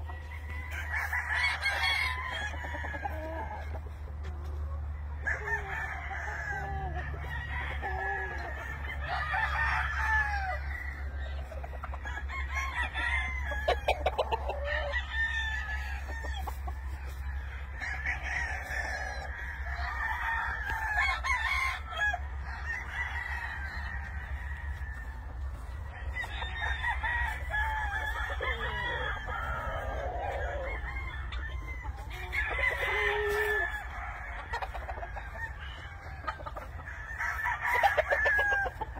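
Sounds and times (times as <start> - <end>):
chickens clucking: 0.0 - 38.9
roosters crowing: 0.0 - 38.9.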